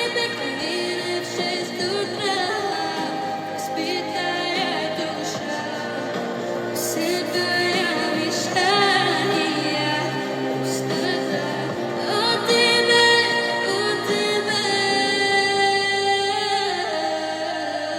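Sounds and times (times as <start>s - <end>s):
steady musical accompaniment: 0.0s - 17.9s.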